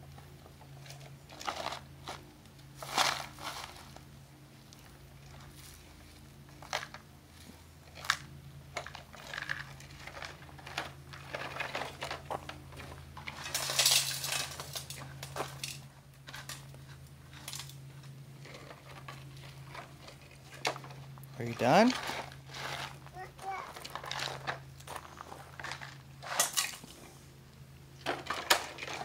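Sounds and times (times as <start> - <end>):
gravel crunching and clattering: 0.0 - 29.0.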